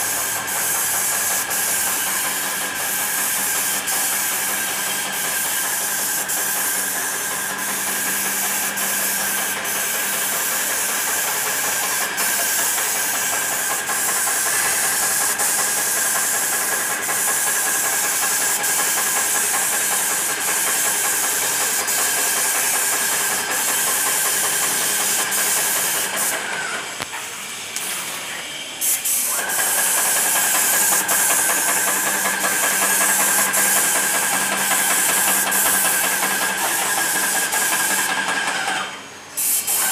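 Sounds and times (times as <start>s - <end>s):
paint spraying hiss: 0.0s - 26.6s, 27.2s - 38.6s, 39.3s - 39.9s
paint sprayer motor hum: 0.0s - 27.2s, 29.0s - 39.9s.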